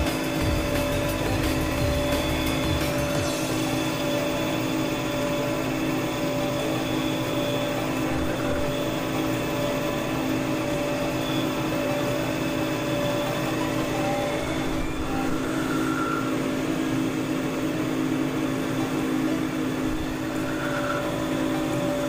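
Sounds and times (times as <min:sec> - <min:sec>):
metal lathe humming: 0:00.0 - 0:22.0.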